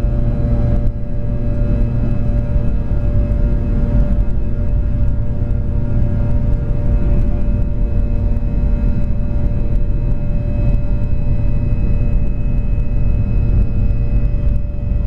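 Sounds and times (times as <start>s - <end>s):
jet engines whining inside cabin: 0.0s - 15.0s.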